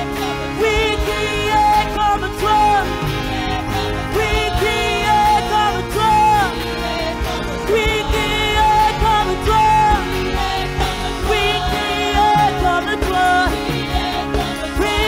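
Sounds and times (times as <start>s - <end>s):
band playing: 0.0s - 15.0s
woman singing: 0.0s - 15.0s.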